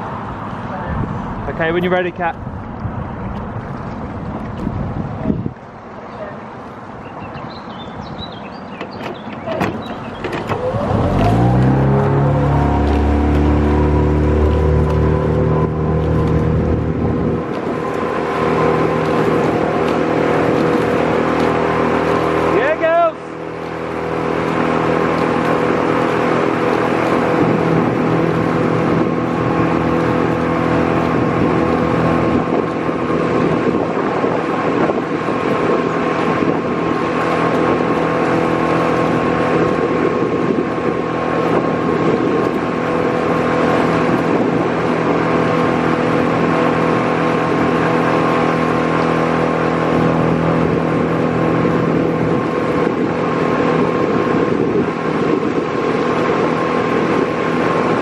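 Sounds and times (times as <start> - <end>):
outboard motor humming: 0.0 - 58.0.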